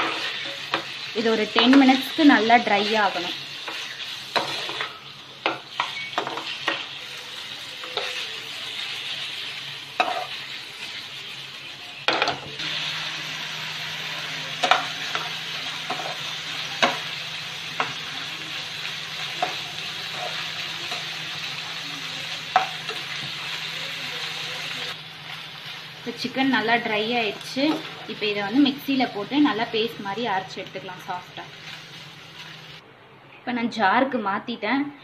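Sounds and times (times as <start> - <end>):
chicken sizzling in a pan: 0.0 - 32.8.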